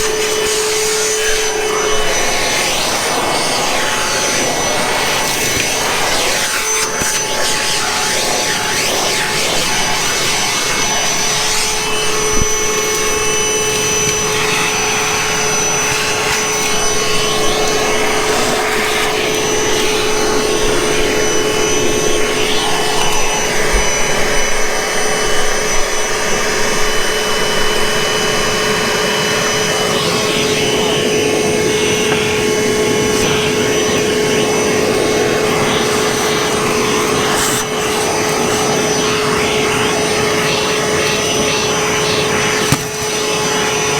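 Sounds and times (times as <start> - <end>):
shop vac motor whine: 0.0 - 43.9.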